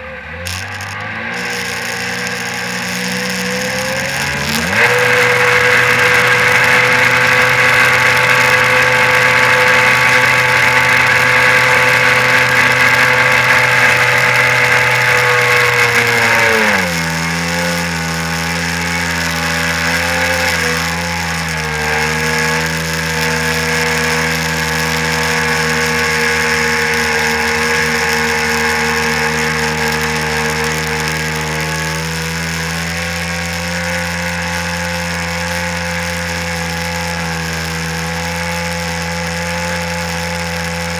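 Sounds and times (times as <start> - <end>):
personal watercraft engine running: 0.0 - 40.9.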